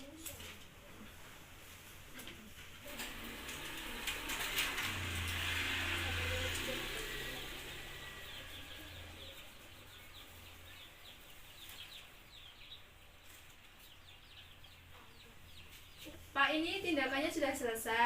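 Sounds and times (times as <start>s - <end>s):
birds chirping: 2.3s - 18.0s.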